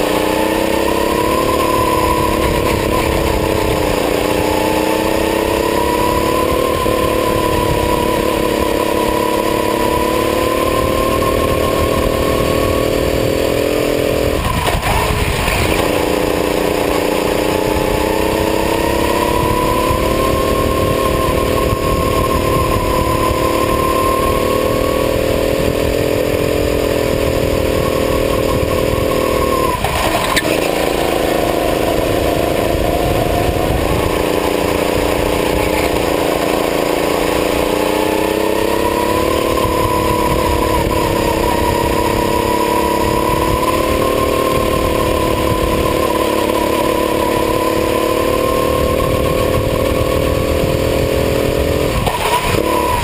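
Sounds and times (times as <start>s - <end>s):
kart engine running hard: 0.0s - 53.0s.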